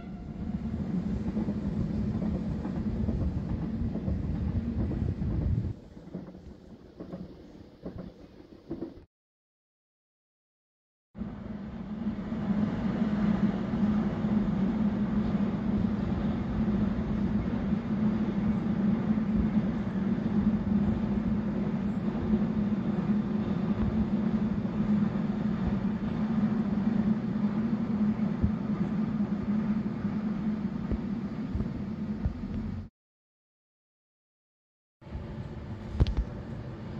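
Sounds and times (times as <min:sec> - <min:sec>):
locomotive low hum: 0:00.0 - 0:09.0, 0:11.2 - 0:32.9, 0:35.0 - 0:36.9
freight train rumbling on rails: 0:00.0 - 0:09.1, 0:11.2 - 0:32.9, 0:35.0 - 0:36.9.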